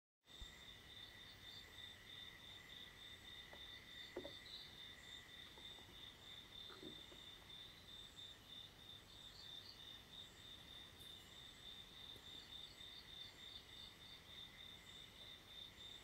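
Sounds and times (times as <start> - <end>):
faint high-pitched chirping tone: 0.3 - 16.0.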